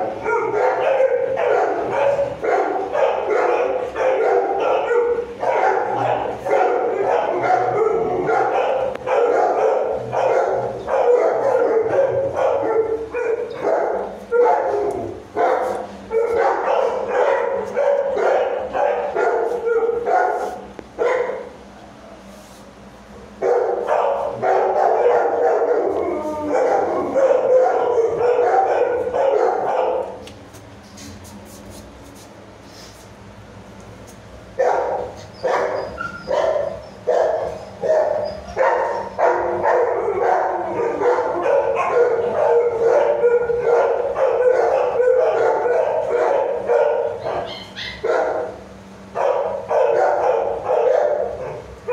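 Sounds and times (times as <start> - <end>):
puppies barking and yapping: 0.0 - 21.5, 23.4 - 30.3, 34.6 - 51.9.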